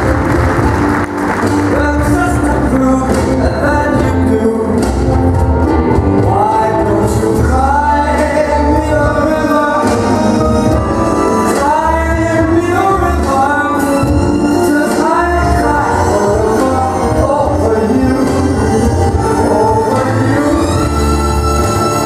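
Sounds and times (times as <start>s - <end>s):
latin dance music: 0.0s - 22.0s
person singing: 1.5s - 22.0s.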